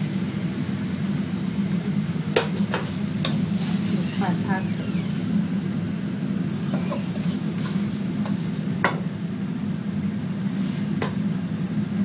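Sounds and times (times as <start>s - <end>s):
low kitchen hum: 0.0s - 12.0s.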